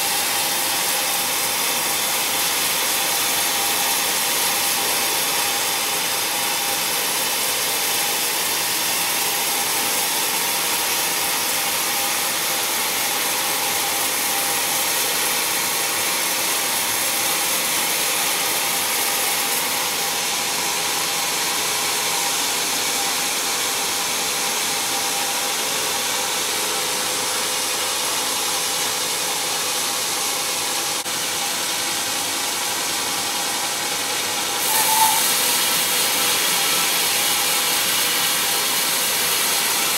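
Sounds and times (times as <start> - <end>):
band saw cutting wood: 0.0 - 39.9
faint saw blade whine: 0.0 - 39.9.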